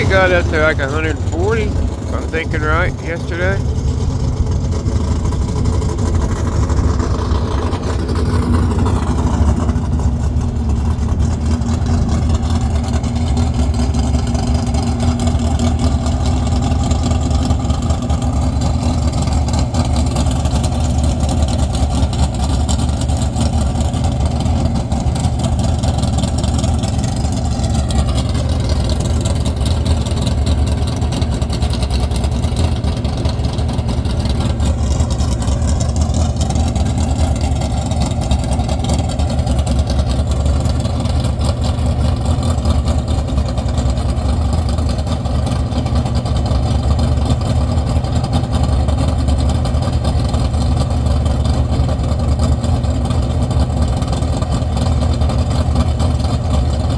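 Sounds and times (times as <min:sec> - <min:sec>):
vehicle engine running loudly: 0:00.0 - 0:56.9.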